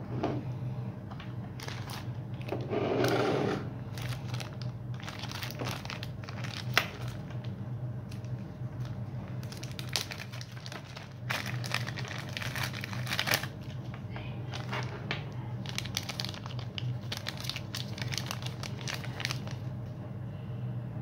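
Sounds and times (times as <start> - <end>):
plastic bag crinkling: 1.6 - 2.6, 3.8 - 19.8.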